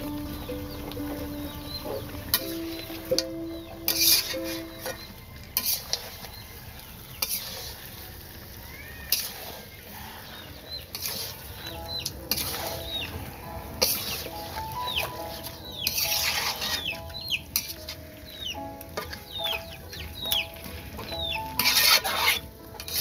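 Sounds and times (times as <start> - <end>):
low sizzle: 0.0 - 23.0
metal spatula scraping wok: 0.0 - 23.0.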